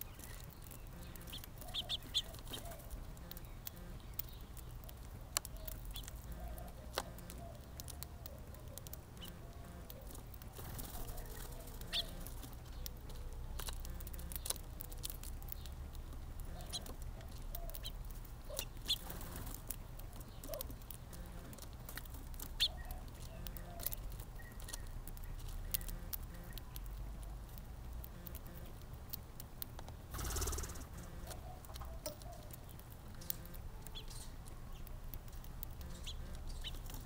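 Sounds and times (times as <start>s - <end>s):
birds cooing: 0.0s - 21.7s, 22.4s - 26.8s, 30.1s - 34.9s, 35.8s - 37.0s
low steady rumble: 0.0s - 31.9s, 32.6s - 37.0s.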